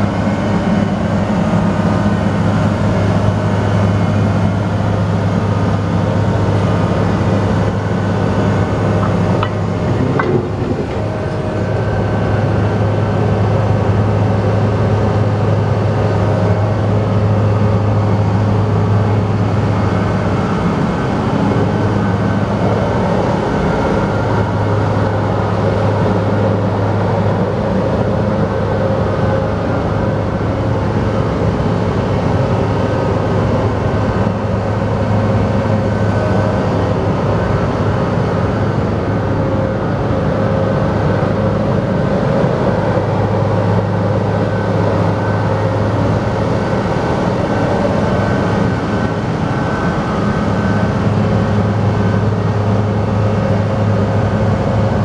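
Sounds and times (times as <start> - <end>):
diesel engine running: 0.0 - 55.0
hydraulic pump whine: 0.0 - 55.0.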